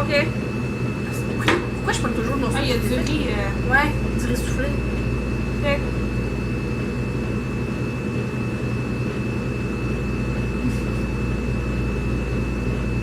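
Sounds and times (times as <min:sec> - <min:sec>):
high constant whine: 0:00.0 - 0:13.0
steady low hum: 0:00.0 - 0:13.0.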